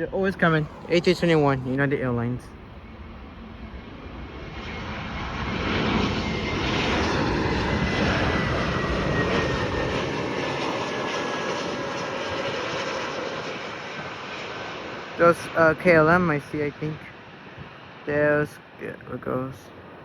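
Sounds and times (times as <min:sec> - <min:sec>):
jet plane passing: 0:00.0 - 0:20.0.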